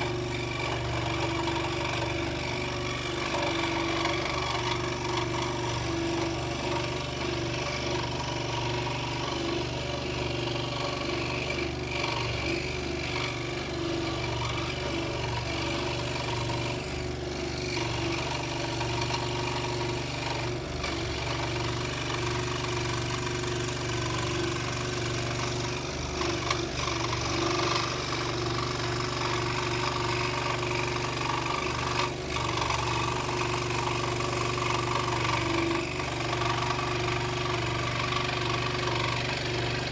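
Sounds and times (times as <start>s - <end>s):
scroll saw cutting: 0.0s - 39.9s.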